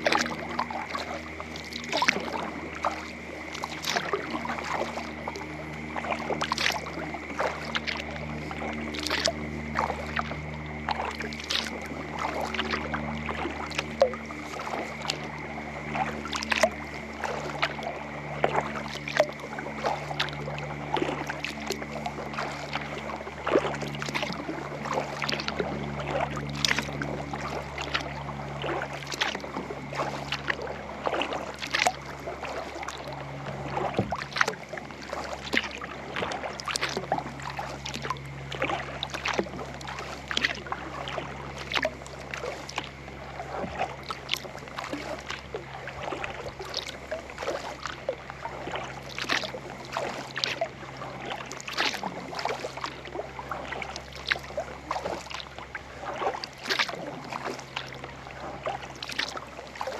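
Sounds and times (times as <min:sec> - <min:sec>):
paddle strokes splashing in water: 0:00.0 - 0:59.9
steady low hum: 0:00.0 - 0:59.9.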